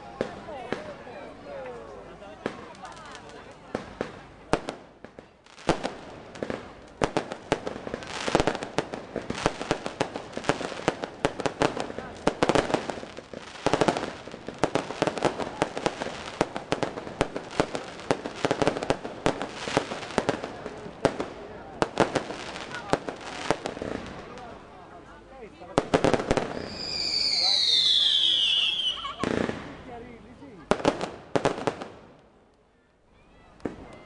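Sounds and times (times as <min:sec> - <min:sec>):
fireworks bangs and crackling: 0:00.0 - 0:32.6, 0:33.6 - 0:34.0.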